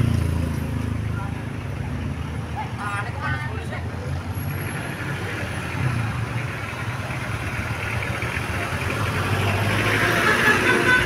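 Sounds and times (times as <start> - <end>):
bus engine humming: 0.0 - 11.0
traffic noise: 0.0 - 11.0.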